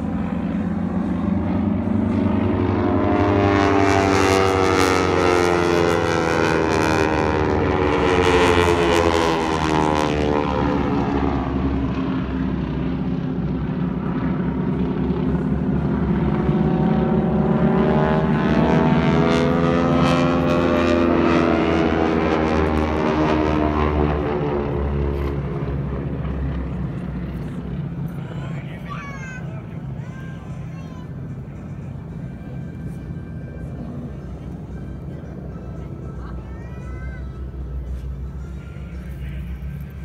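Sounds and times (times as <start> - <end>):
aircraft engines flying overhead: 0.0 - 40.0.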